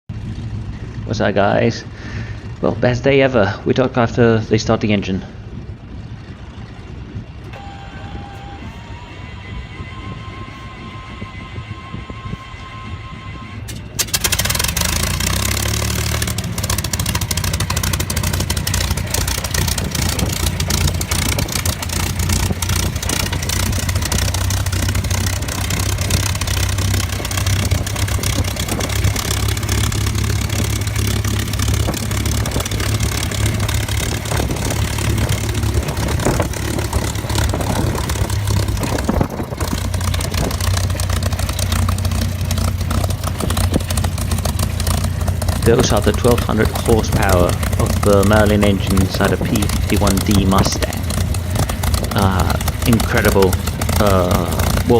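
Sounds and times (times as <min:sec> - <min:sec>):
aircraft engine rumbling: 0:00.0 - 0:54.9
crackling exhaust: 0:00.1 - 0:54.9.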